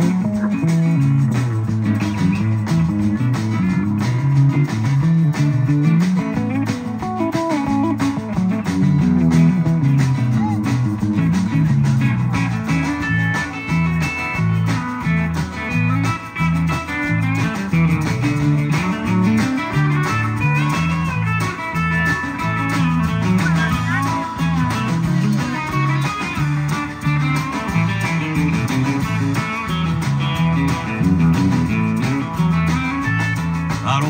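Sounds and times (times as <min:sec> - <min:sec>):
instrumental country music: 0:00.0 - 0:34.0.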